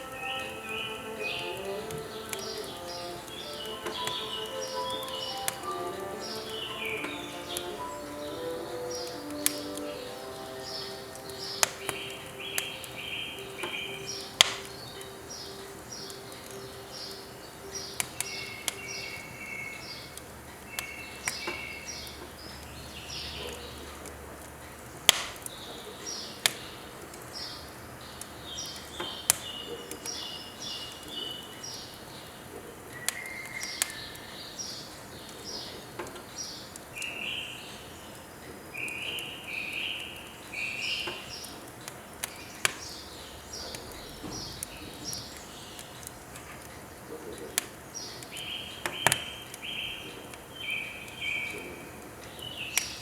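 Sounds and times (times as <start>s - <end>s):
birds chirping: 0.0s - 53.0s
firewood crackling and popping: 0.0s - 53.0s.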